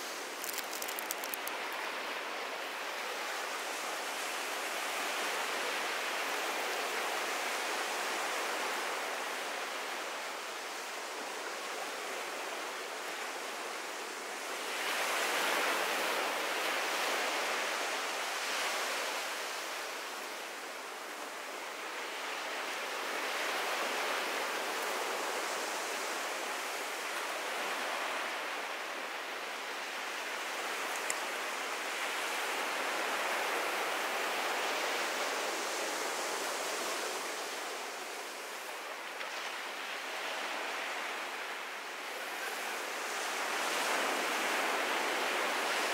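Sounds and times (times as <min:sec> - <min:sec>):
ocean waves washing onto beach: 0:00.0 - 0:45.9.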